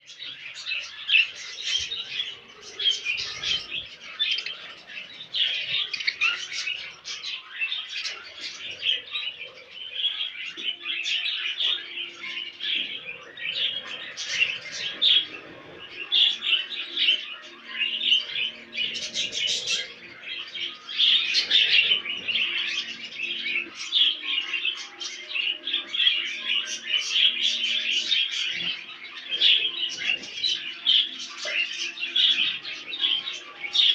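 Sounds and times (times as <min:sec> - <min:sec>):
budgerigars chirping and warbling: 0:00.0 - 0:33.9.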